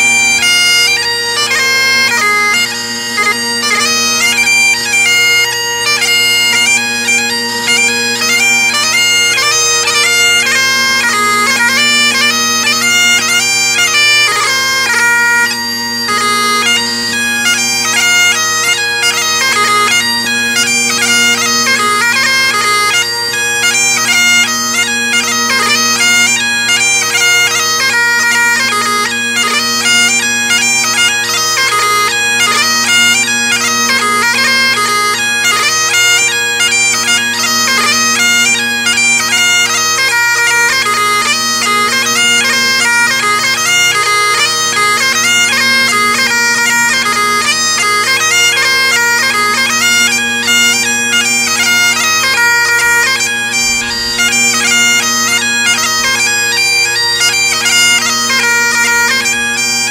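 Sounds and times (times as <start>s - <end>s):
bagpipe chanter melody: 0.0s - 59.9s
bagpipe drones: 0.0s - 59.9s.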